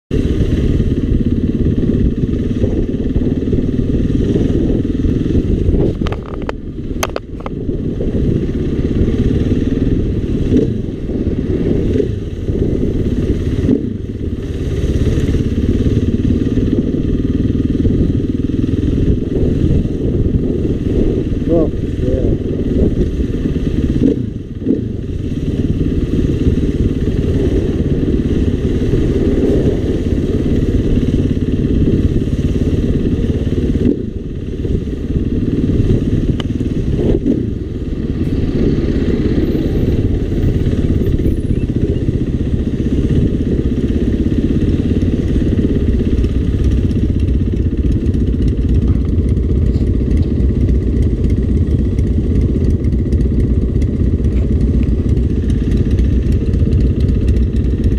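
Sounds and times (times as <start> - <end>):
dirt bike engine running: 0.1 - 57.9.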